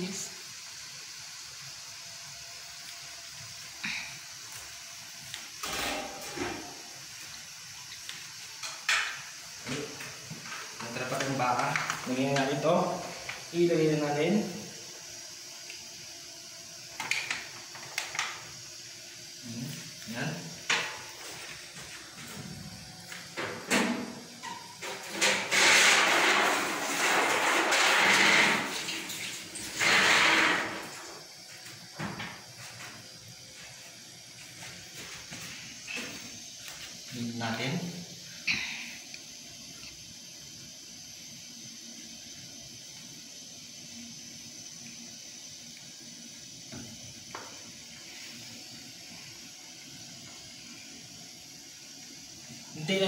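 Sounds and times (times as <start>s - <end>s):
beef sizzling in hot oil: 0.0s - 53.0s
stove-top cooking hiss: 0.0s - 53.0s.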